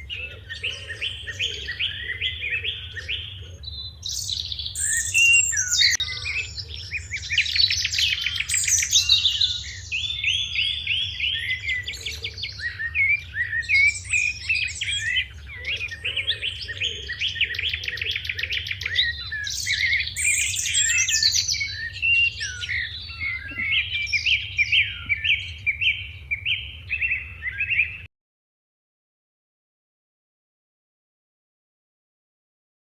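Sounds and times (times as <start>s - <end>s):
sparrows chirping: 0.0s - 28.1s.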